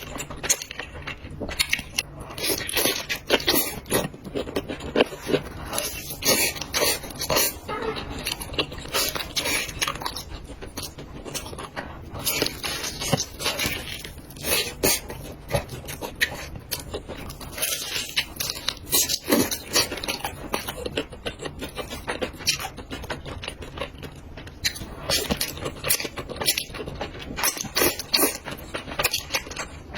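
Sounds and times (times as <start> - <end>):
person chewing food: 0.0 - 29.9.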